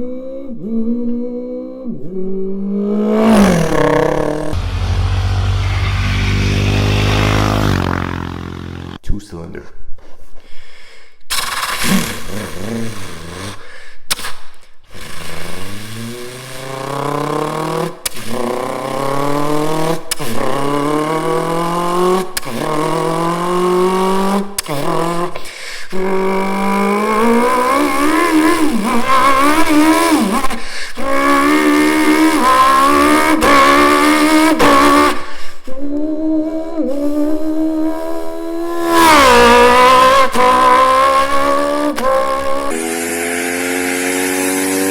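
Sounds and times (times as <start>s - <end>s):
man imitating motorcycle engine: 0.0s - 9.0s, 11.9s - 13.7s, 14.9s - 44.9s.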